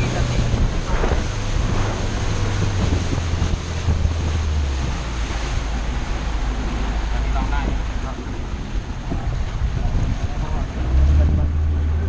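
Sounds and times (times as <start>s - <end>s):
boat engine running: 0.0s - 12.0s
water rushing: 0.0s - 12.0s
wind on microphone: 0.0s - 12.0s.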